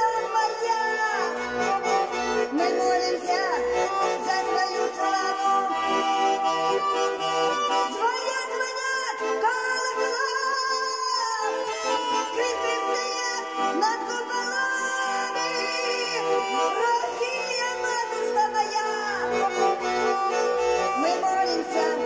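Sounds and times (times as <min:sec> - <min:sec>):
woman singing: 0:00.0 - 0:05.8, 0:07.9 - 0:22.0
button accordion playing: 0:00.0 - 0:22.0.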